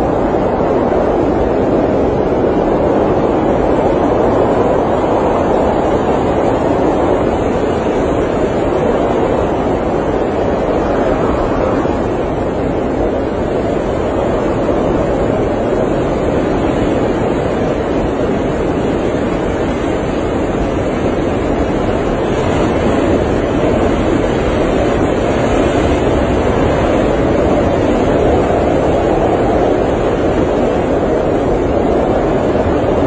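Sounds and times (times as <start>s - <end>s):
blizzard wind rushing: 0.0s - 33.0s.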